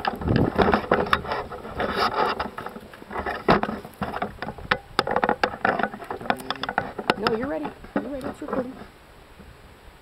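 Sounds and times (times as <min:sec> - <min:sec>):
dry twigs crackling and snapping: 0:00.0 - 0:08.9.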